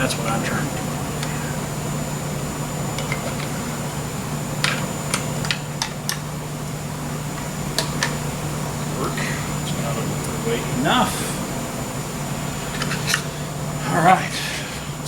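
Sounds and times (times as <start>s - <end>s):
fan-like machine humming: 0.0s - 15.0s.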